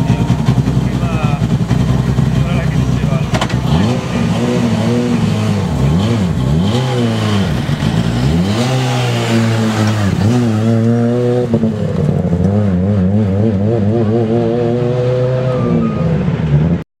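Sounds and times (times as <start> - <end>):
rally car engine revving: 0.0 - 16.8.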